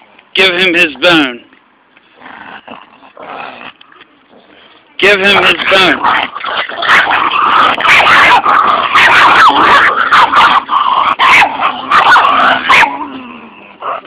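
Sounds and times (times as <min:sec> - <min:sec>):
dogs fighting with high cries: 0:02.1 - 0:14.0.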